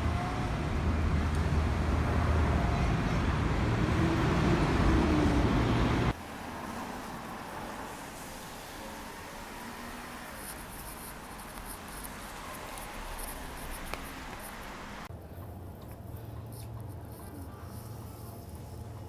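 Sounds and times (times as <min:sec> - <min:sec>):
passing vehicles rumble: 0:00.0 - 0:19.0.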